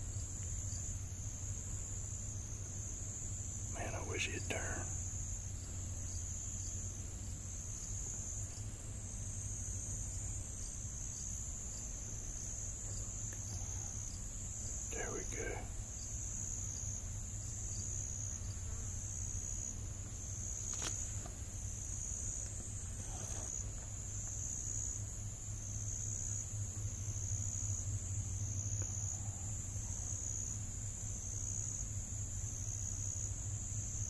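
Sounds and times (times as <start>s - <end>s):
insects trilling: 0.0s - 34.0s
low steady hum: 0.0s - 34.0s.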